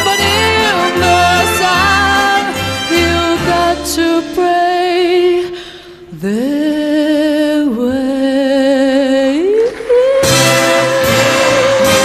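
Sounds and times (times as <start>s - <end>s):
woman singing long notes with vibrato: 0.0s - 12.0s.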